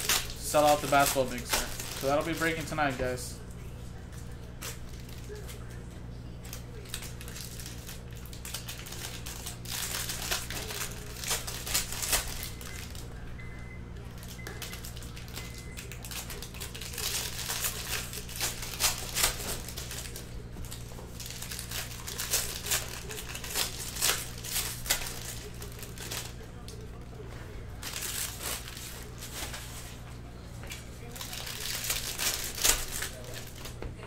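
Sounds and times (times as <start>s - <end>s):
foil wrapper crinkling: 0.0s - 5.7s, 6.4s - 13.1s, 14.0s - 30.0s, 30.7s - 33.8s
steady low hum: 0.0s - 34.0s.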